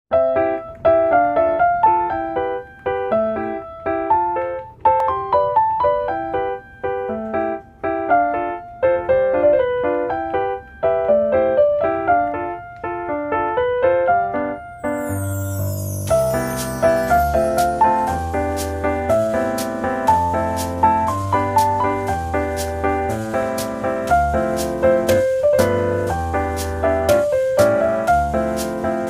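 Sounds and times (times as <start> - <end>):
light piano melody: 0.1 - 29.0.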